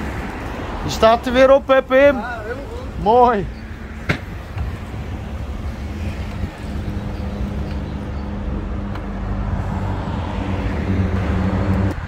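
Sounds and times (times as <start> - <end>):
cars driving by: 0.0 - 12.0
low traffic rumble: 0.0 - 12.0.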